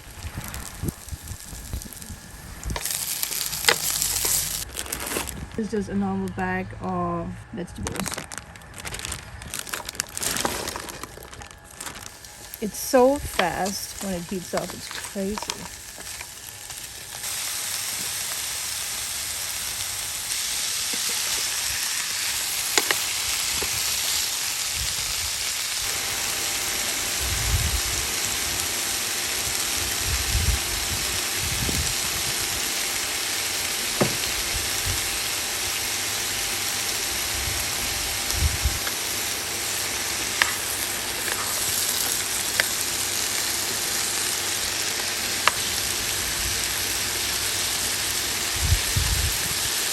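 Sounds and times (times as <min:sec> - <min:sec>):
vegetables sizzling in a pan: 0:00.0 - 0:05.6, 0:08.0 - 0:49.9.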